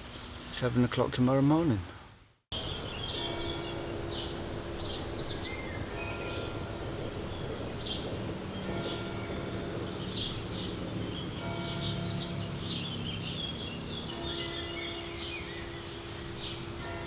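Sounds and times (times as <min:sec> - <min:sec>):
small birds chirping: 0:02.6 - 0:17.0.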